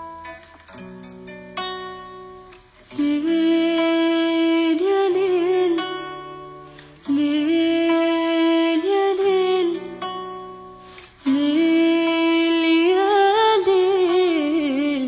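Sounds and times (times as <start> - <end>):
plucked string notes: 0.0 - 15.0.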